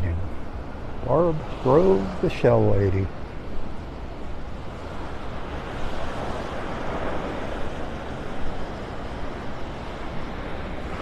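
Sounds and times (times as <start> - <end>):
small waves washing on beach: 0.0 - 11.0.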